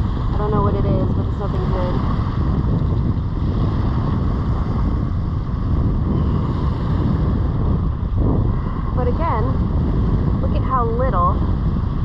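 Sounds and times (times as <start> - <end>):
ocean surf washing: 0.0 - 12.0
wind rumbling on microphone: 0.0 - 12.0.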